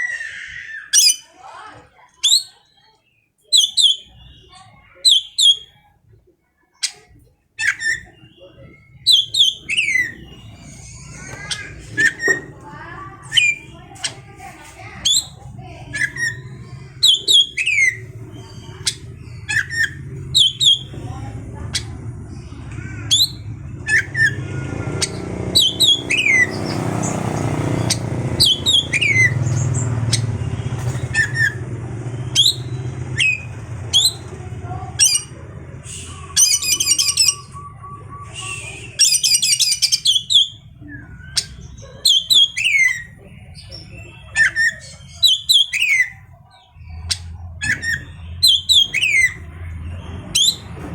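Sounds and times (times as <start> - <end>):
bird chattering trills: 2.0 - 5.8, 6.8 - 50.9.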